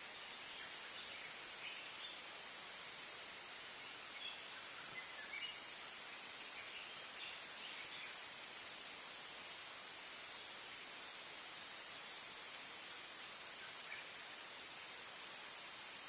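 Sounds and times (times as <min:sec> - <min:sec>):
high insect drone: 0:00.0 - 0:16.0
microphone hiss: 0:00.0 - 0:16.0.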